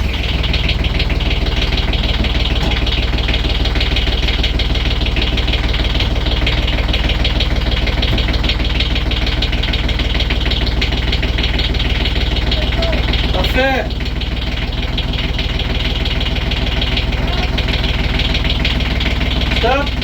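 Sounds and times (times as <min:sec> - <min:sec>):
marine diesel engine idling: 0:00.0 - 0:20.0.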